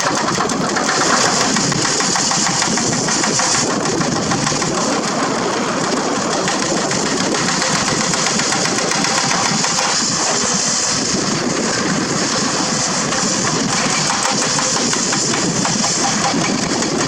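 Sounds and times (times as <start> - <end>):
constant high hiss: 0.0 - 17.0
excavator diesel engine running: 0.0 - 17.0.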